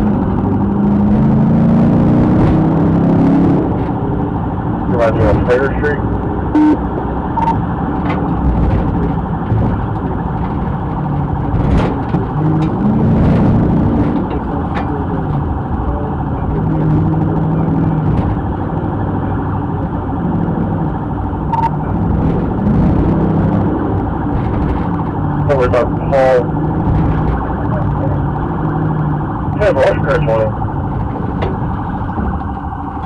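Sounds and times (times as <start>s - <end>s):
car engine revving: 0.0s - 33.0s
road and tyre noise: 0.0s - 33.0s.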